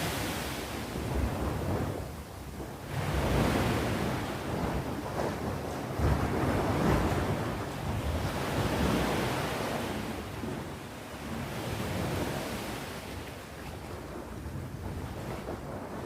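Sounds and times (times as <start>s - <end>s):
sea waves breaking on shore: 0.0s - 16.0s
wind noise on microphone: 0.0s - 16.0s.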